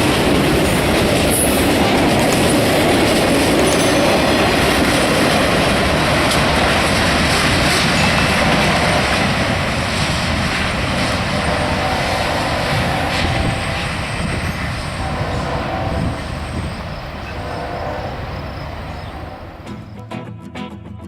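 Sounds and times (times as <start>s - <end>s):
freight train rumbling past: 0.0s - 20.1s.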